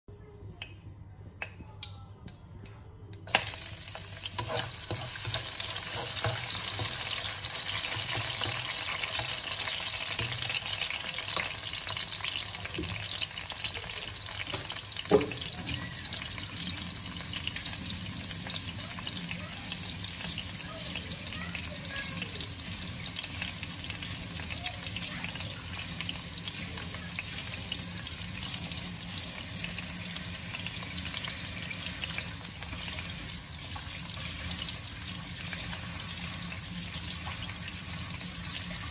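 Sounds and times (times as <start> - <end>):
garlic sizzling in hot oil: 3.3 - 38.9.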